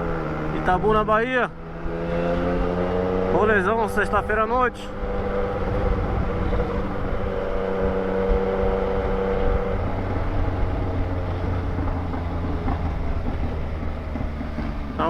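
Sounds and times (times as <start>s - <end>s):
motorcycle engine while riding: 0.0s - 15.0s.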